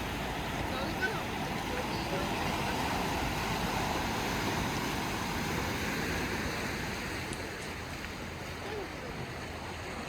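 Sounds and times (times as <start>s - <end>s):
sea surf washing: 0.0s - 10.0s.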